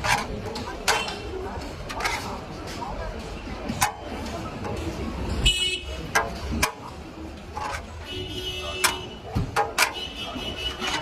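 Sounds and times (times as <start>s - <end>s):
metal utensils clinking on pots: 0.0s - 2.7s, 3.6s - 11.0s
shop background noise: 0.0s - 11.0s.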